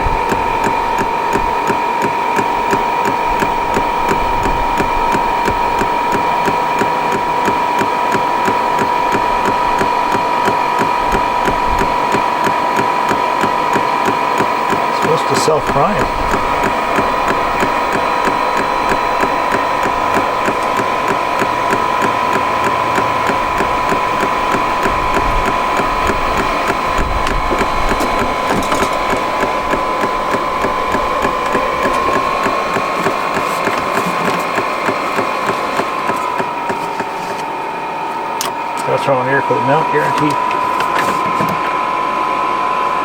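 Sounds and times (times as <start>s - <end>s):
fuel pump ticking rapidly: 0.0s - 37.5s, 38.3s - 41.8s
blower fan whine: 0.0s - 43.0s.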